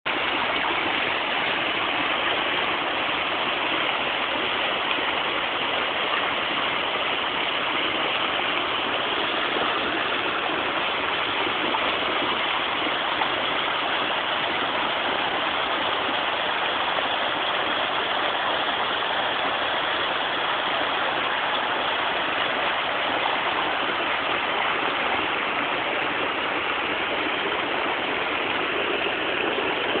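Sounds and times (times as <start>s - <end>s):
stream rushing over boulders: 0.1s - 30.0s.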